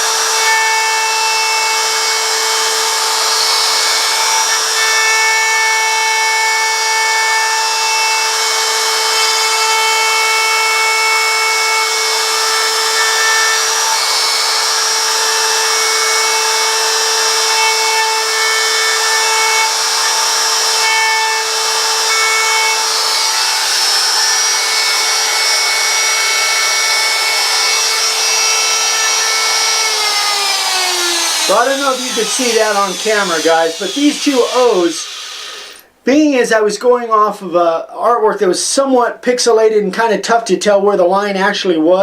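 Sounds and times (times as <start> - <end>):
router bit cutting wood: 0.0 - 35.9
wood router whining: 0.0 - 35.9.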